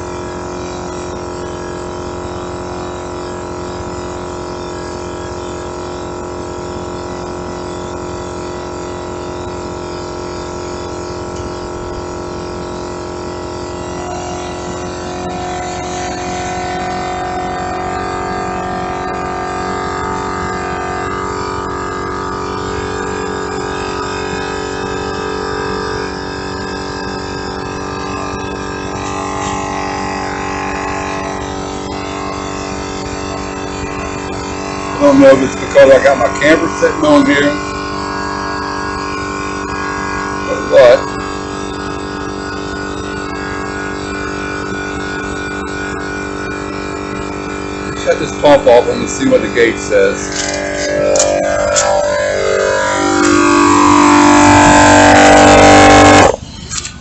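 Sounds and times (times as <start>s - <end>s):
air compressor humming: 0.0s - 57.0s.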